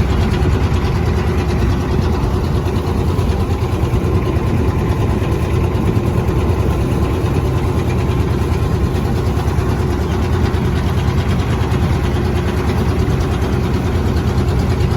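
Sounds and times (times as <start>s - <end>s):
boat engine humming: 0.0s - 14.9s.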